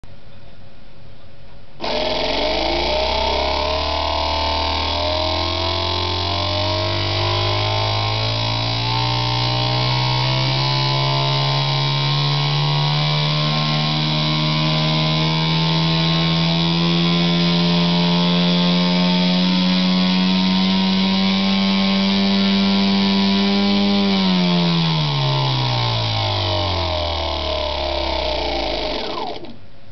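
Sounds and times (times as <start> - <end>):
buzzy simulated engine drone: 1.8 - 29.6.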